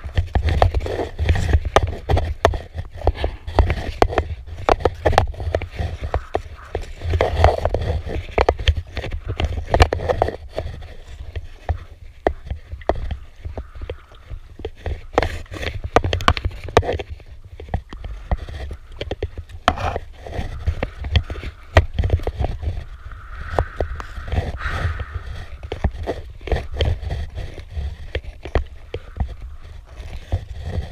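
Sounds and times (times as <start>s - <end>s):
paddle clicks and knocks: 0.0s - 30.9s
wind rumble on microphone: 0.0s - 30.9s.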